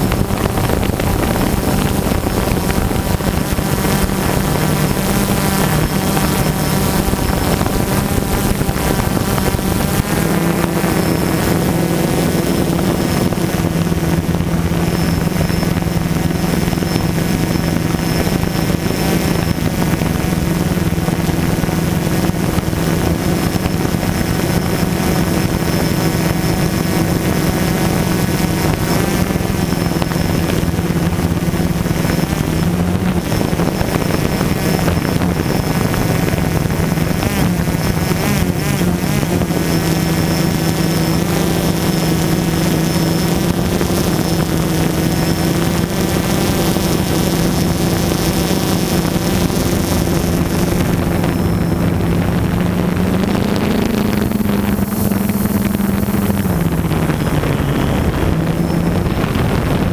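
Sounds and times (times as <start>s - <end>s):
drone propellers humming: 0.0s - 59.9s
wind rushing over microphone: 0.0s - 59.9s.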